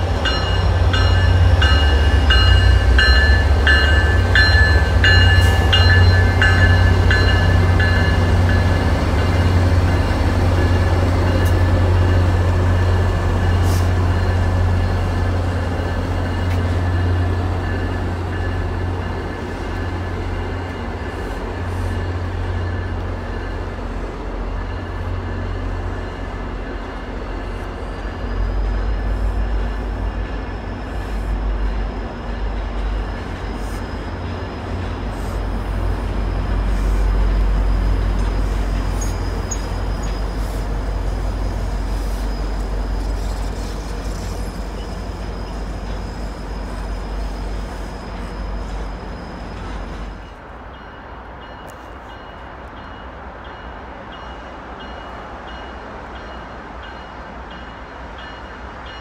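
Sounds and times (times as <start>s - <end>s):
train wheels clicking and clanking: 0.0s - 50.5s
diesel locomotive droning: 0.0s - 59.0s.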